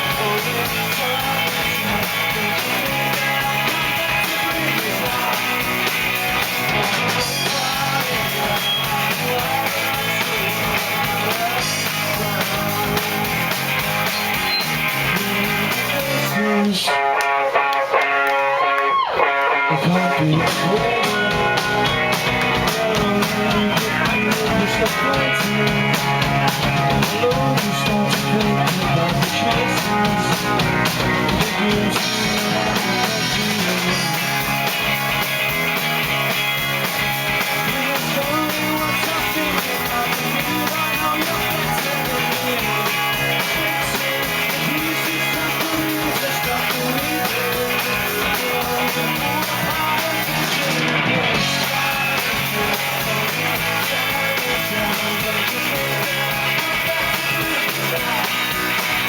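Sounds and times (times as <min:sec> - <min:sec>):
bass guitar: 0:00.0 - 0:59.0
drum kit beat: 0:00.0 - 0:59.0
electric guitars: 0:00.0 - 0:59.0.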